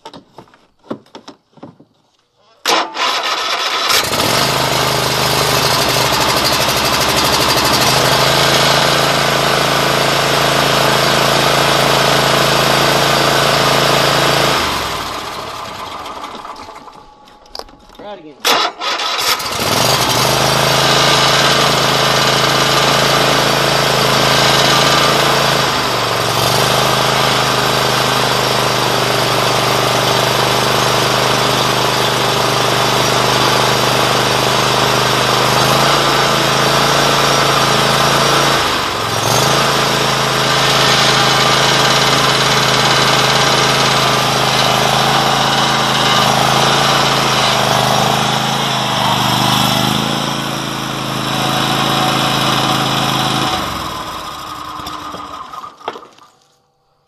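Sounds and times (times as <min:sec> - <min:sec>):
lawn mower engine running: 0:02.6 - 0:56.6.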